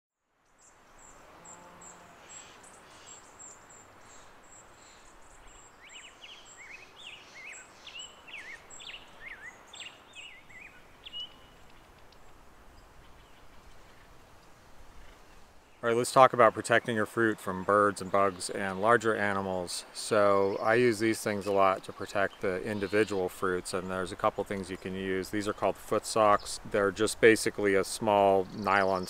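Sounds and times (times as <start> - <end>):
songbird singing: 0.3 - 29.0
faint hiss: 0.4 - 29.0.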